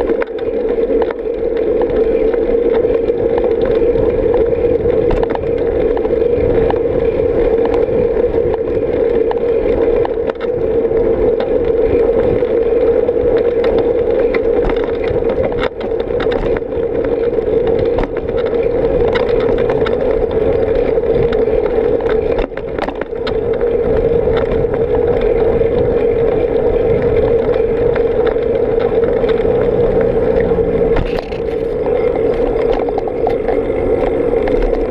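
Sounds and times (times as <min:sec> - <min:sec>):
bicycle knocks and rattles: 0:00.0 - 0:34.9
bicycle tyres on asphalt: 0:00.0 - 0:34.9
vehicle engine humming: 0:00.0 - 0:34.9.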